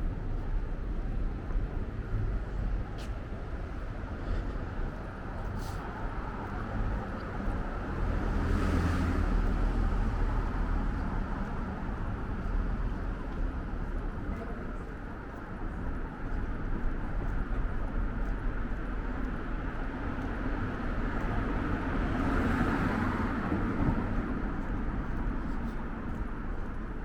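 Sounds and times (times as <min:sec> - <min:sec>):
low rumble of street noise: 0:00.0 - 0:27.0.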